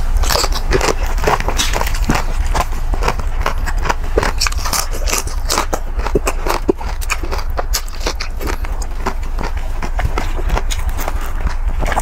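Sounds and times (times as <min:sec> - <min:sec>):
chewing crispy pork skin: 0:00.0 - 0:12.0
low hum: 0:00.0 - 0:12.0.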